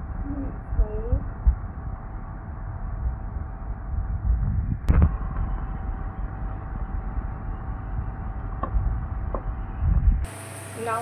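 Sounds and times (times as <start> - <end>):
low rumble: 0.0 - 10.9.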